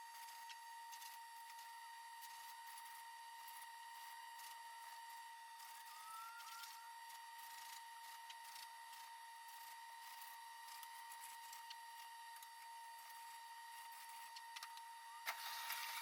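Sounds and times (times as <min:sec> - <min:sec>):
thin steady whine: 0:00.0 - 0:16.0.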